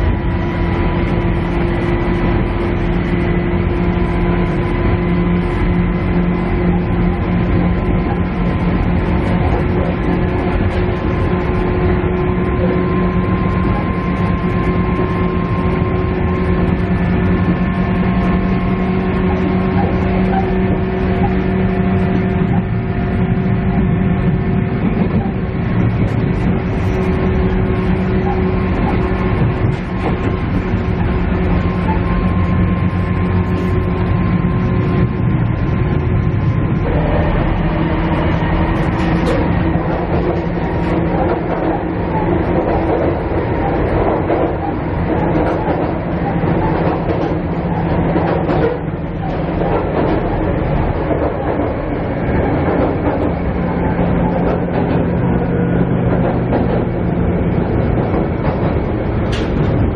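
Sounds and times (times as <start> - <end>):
diesel engine drone: 0.0 - 59.9
wheel and rail rumble: 0.0 - 59.9.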